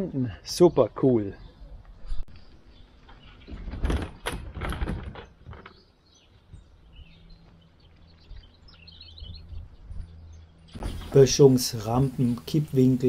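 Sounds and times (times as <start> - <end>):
faint outdoor hum: 0.0 - 13.0
small birds chirping: 0.0 - 13.0.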